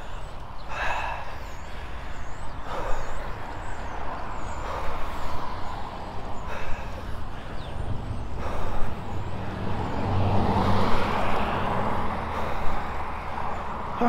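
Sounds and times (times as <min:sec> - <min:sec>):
wind buffeting microphone: 0:01.8 - 0:14.0.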